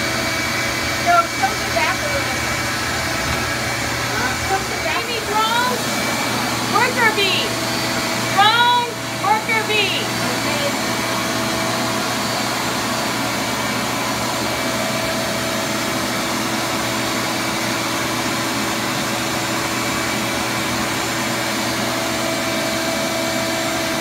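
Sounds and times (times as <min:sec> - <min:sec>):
vacuum running: 0:00.0 - 0:24.0.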